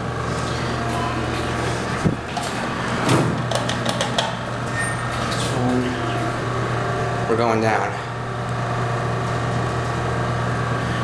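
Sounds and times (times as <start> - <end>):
elevator doors sliding: 0.0 - 11.0
steady low hum: 0.0 - 11.0.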